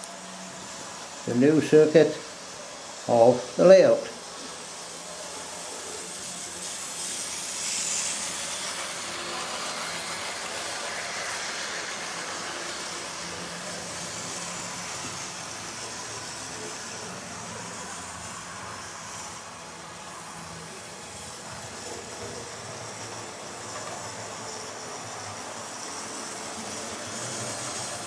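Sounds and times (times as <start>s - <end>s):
model train motor whirring: 0.0s - 28.0s.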